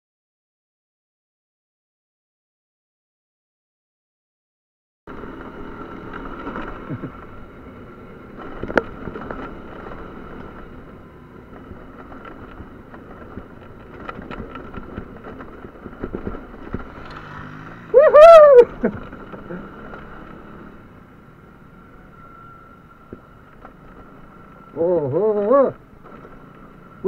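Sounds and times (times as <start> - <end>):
small motorcycle engine running: 5.1 - 27.0.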